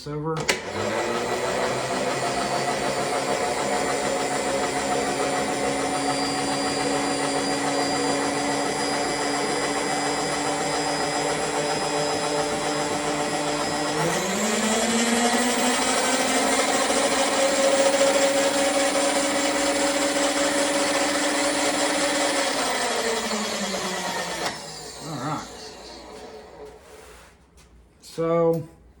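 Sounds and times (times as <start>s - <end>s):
electric motor humming: 0.5s - 26.8s.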